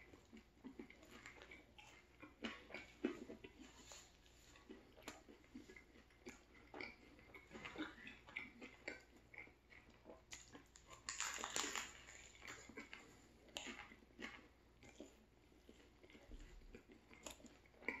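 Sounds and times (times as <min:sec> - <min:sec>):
biting into bread: 0:00.0 - 0:18.0
person chewing: 0:00.0 - 0:18.0.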